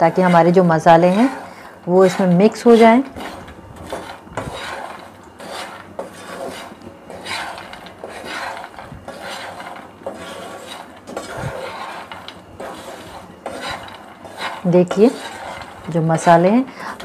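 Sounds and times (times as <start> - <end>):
spatula scraping a frying pan: 0.0 - 17.0.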